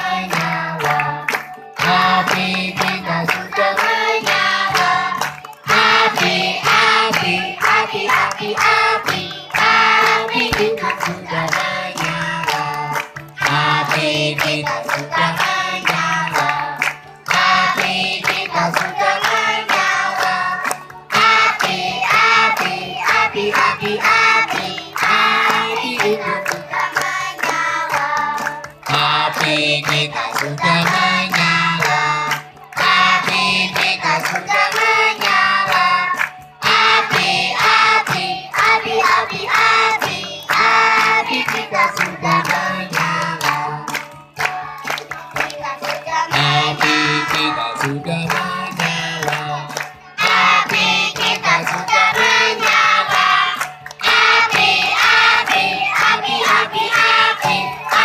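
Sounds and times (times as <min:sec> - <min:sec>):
children singing in unison: 0:00.0 - 0:58.0.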